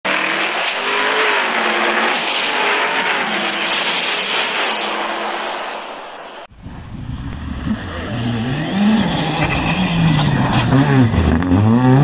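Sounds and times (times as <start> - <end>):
racing car engine revving: 0.1 - 5.9, 7.3 - 12.0.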